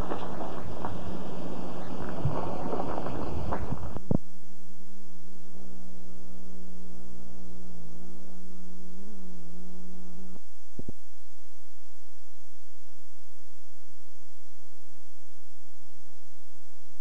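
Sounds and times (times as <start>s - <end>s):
faint steady hum: 0.0s - 17.0s
wavering tape hum: 0.0s - 17.0s.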